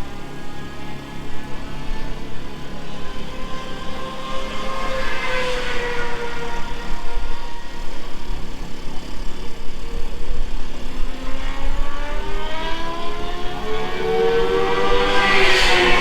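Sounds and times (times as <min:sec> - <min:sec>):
constant low rumble: 0:00.0 - 0:15.0
motorcycle engine accelerating: 0:00.0 - 0:16.0.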